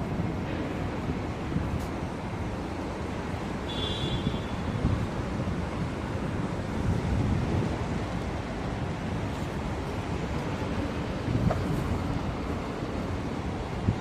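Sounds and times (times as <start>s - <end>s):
wind buffeting microphone: 0.0s - 3.4s, 4.2s - 14.0s.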